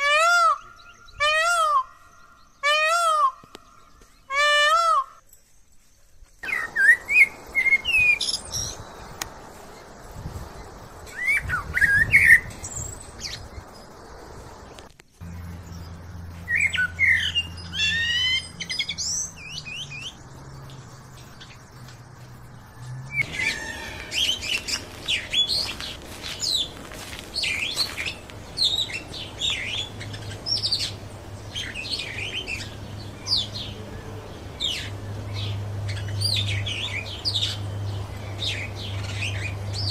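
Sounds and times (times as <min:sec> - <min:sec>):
birds chirping and whistling: 0:06.4 - 0:22.4, 0:23.1 - 0:39.9.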